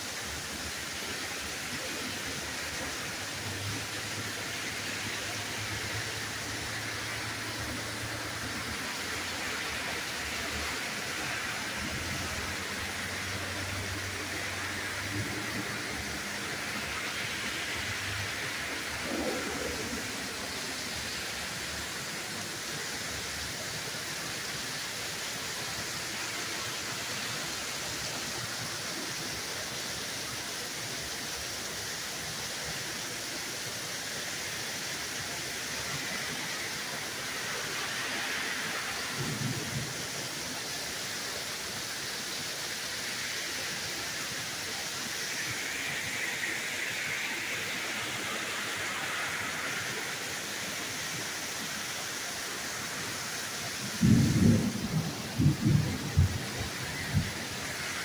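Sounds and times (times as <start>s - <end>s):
torrential rain pouring: 0.0s - 58.0s.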